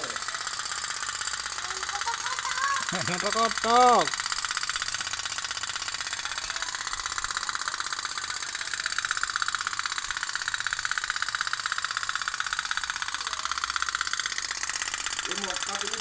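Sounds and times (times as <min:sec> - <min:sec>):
toy steam boat engine popping: 0:00.0 - 0:16.0.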